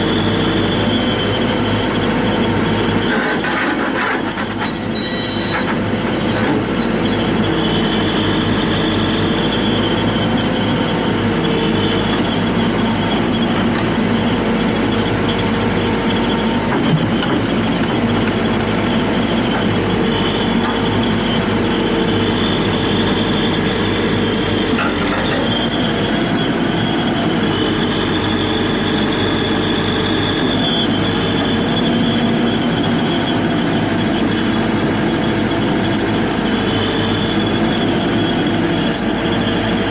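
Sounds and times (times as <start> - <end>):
engine whine shifting pitch: 0.0 - 5.5, 6.6 - 39.9
diesel engine running: 0.0 - 39.9.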